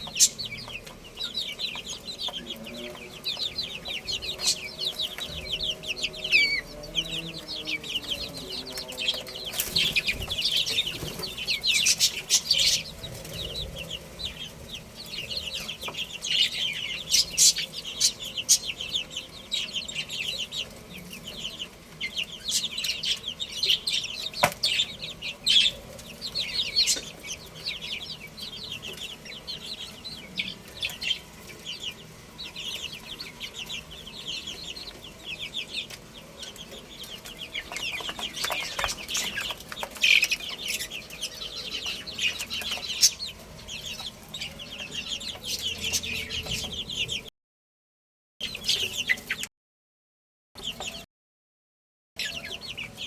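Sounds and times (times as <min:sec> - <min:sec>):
baby chicks peeping: 0:00.0 - 0:47.3, 0:48.4 - 0:49.5, 0:50.6 - 0:51.1, 0:52.2 - 0:53.0.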